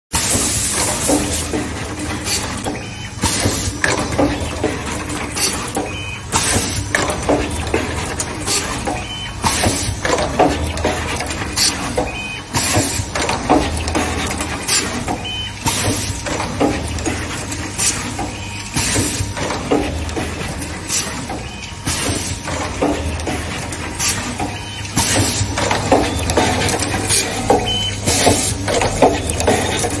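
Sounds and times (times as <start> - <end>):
mechanical clacks: 0.1 - 30.0.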